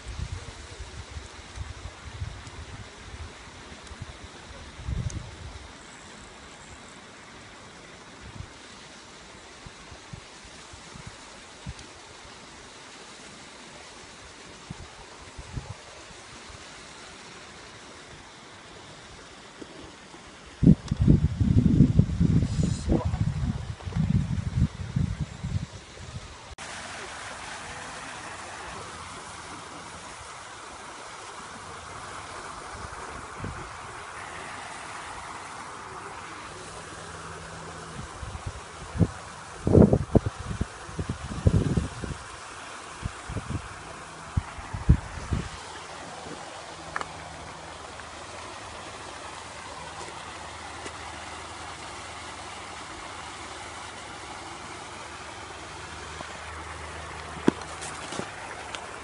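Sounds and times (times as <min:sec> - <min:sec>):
even hiss: 0:00.0 - 0:59.0
fountain spraying water: 0:00.0 - 0:59.0.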